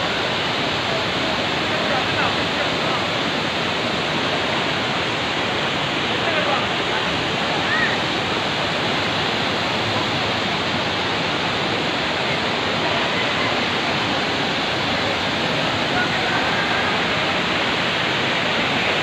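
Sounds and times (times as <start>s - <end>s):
faint voices: 0.0s - 19.0s
waterfall rushing: 0.0s - 19.0s.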